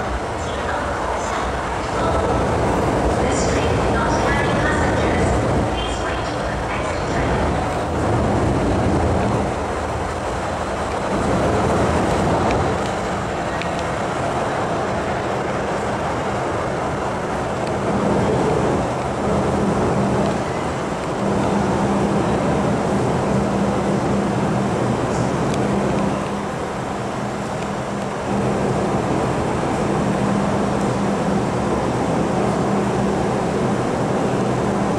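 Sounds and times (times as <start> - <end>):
steady hum: 0.0 - 34.9
train wheels rumbling: 0.0 - 34.9.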